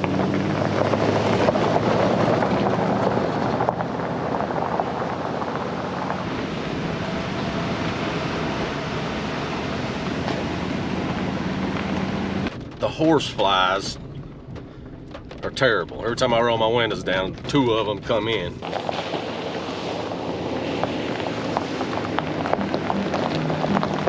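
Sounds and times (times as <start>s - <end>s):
muddy water splashing under tyres: 0.0s - 17.9s, 18.6s - 24.0s
pickup truck engine running: 0.0s - 24.0s.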